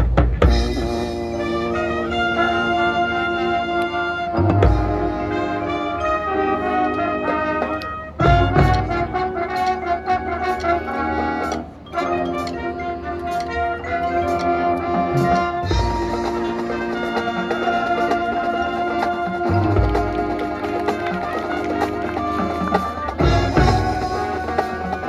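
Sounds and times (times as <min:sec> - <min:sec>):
brass sustained chords: 0:00.0 - 0:25.0
marching band playing: 0:00.0 - 0:25.0.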